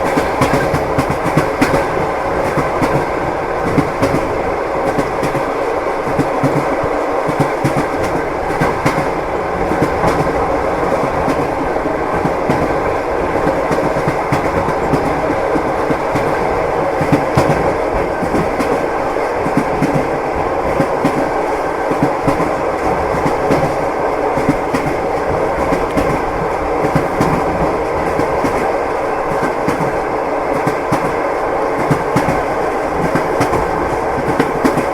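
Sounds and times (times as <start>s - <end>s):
train carriage rumble: 0.0s - 34.9s.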